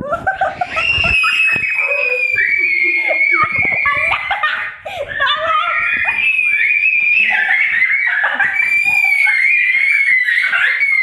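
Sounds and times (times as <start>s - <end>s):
people talking: 0.0s - 11.0s.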